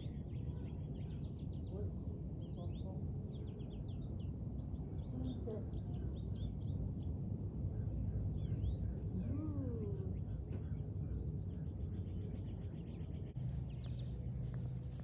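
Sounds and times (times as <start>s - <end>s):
birds chirping: 0.0s - 15.0s
low steady rumble: 0.0s - 15.0s.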